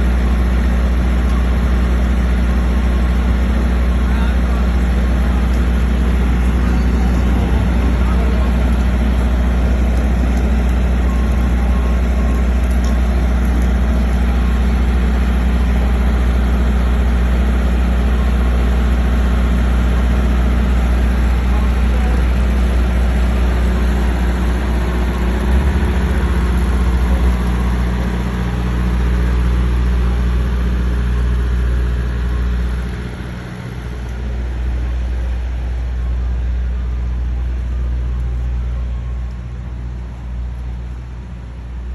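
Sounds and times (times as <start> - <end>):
truck engine idling: 0.0 - 41.9.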